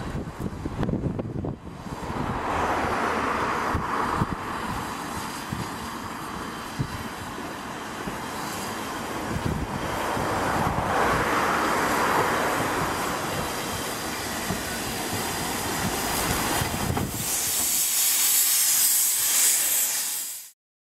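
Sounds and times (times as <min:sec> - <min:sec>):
locomotive low rumble: 0:00.0 - 0:18.6
steam hissing from locomotive: 0:01.8 - 0:20.6.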